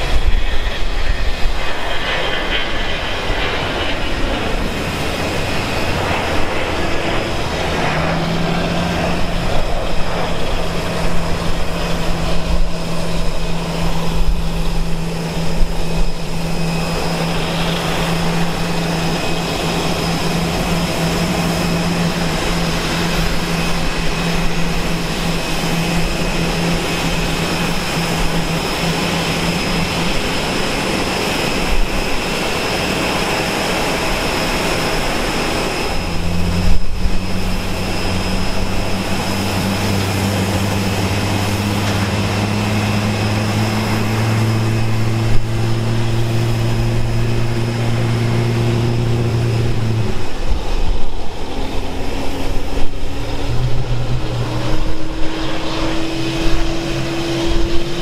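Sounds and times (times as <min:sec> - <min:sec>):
aircraft whine and hiss: 0:00.0 - 0:58.0
jet engine spooling up: 0:00.0 - 0:58.0.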